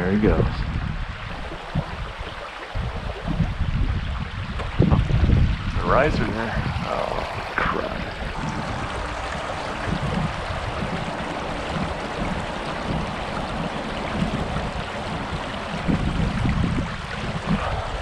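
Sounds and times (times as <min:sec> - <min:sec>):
stream rushing: 0:00.0 - 0:18.0
wind buffeting microphone: 0:00.0 - 0:18.0.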